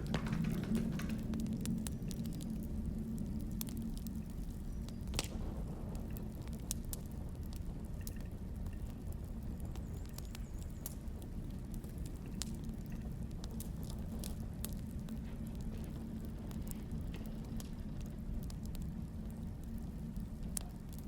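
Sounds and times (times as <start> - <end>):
low fire rumble: 0.0 - 21.0
wood fire crackling and popping: 0.0 - 21.0.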